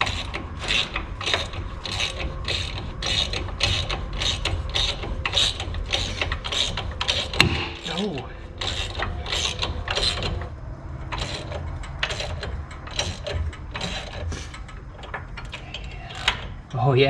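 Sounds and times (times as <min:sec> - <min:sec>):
ratchet wrench clicking: 0:00.0 - 0:16.7.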